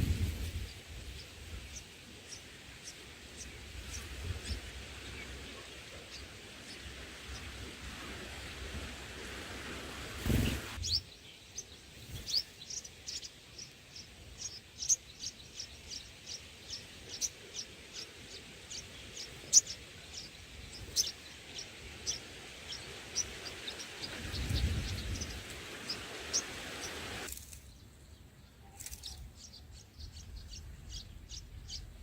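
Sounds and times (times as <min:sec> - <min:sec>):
bulbuls chirping: 0:00.0 - 0:09.4, 0:10.1 - 0:27.3
steady hiss: 0:00.0 - 0:27.6.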